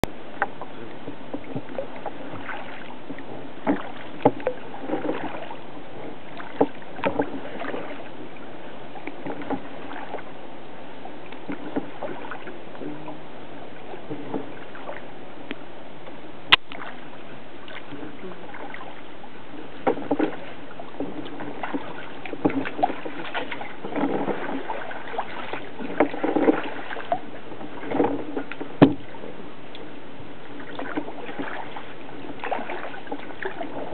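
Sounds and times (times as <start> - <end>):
water splashing from paddling: 0.0 - 33.9.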